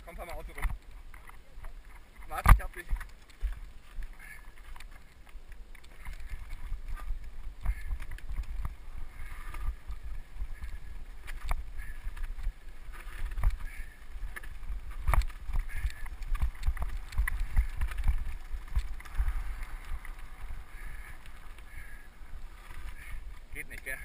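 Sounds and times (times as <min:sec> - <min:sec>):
wind rumbling on microphone: 0:00.0 - 0:24.0
mountain bike rattling: 0:01.7 - 0:24.0.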